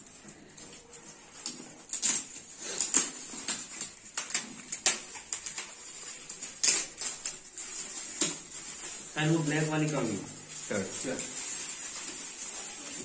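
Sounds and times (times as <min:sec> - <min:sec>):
gift wrap crinkling and tearing: 0:00.0 - 0:13.0.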